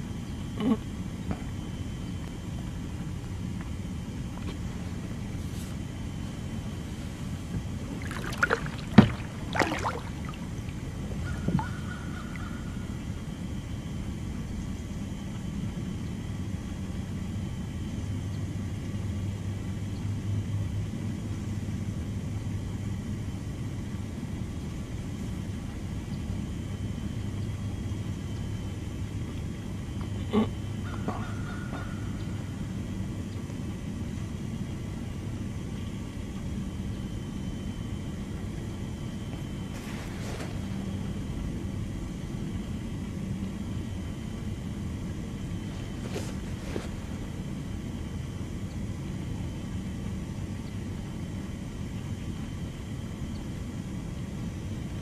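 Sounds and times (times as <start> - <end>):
low engine-like rumble: 0.0 - 55.0.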